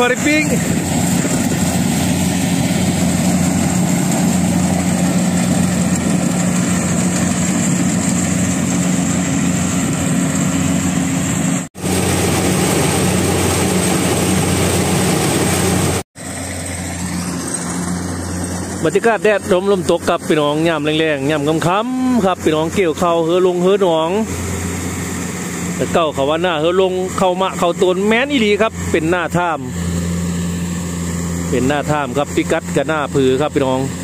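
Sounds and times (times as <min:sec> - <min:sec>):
combine harvester engine drone: 0:00.0 - 0:34.0.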